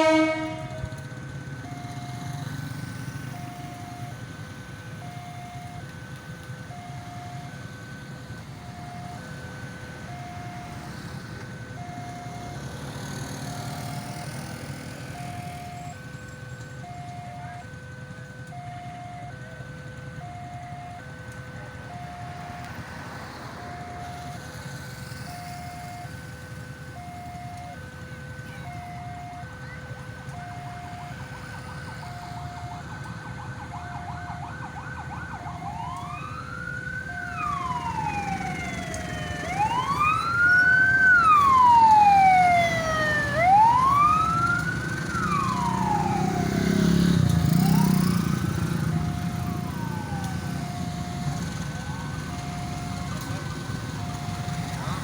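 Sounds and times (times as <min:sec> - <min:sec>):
ambulance siren wailing: 0:00.0 - 0:55.0.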